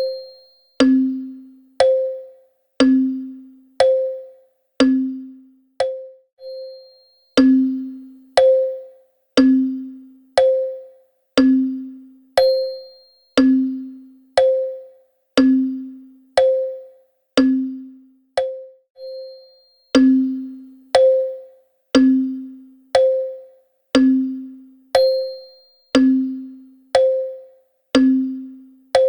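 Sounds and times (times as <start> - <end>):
wall clock ticking: 0.8 - 6.1, 7.4 - 12.8, 13.4 - 18.6, 20.0 - 29.0.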